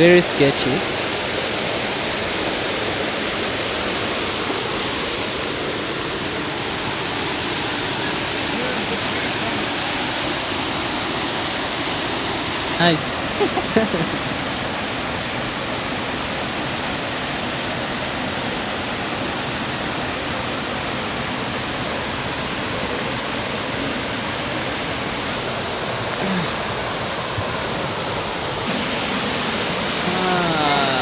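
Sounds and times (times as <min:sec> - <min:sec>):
waterfall pouring: 0:00.0 - 0:31.0.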